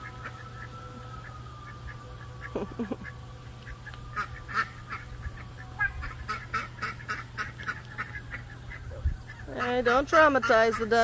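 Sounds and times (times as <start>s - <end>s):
ducks calling: 0.0s - 11.0s.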